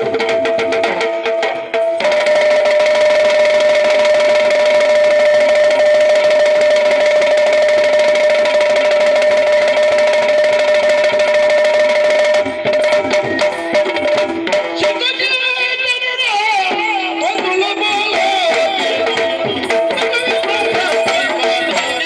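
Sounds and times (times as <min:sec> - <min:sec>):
drum roll played with sticks: 0:00.0 - 0:15.9, 0:16.6 - 0:22.0.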